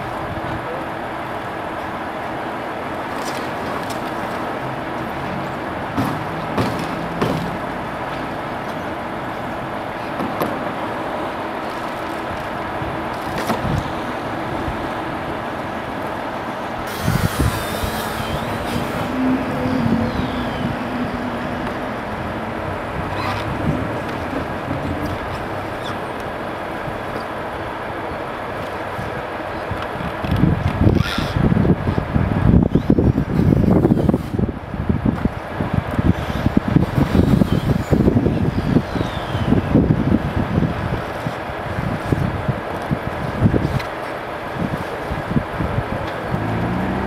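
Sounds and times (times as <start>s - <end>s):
vehicle engine: 0.0s - 30.9s, 31.5s - 47.0s
traffic noise: 0.0s - 47.0s.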